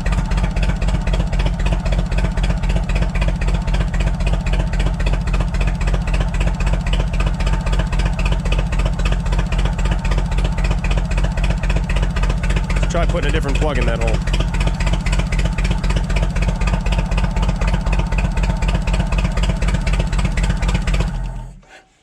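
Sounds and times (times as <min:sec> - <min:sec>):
forklift engine misfiring: 0:00.0 - 0:21.7.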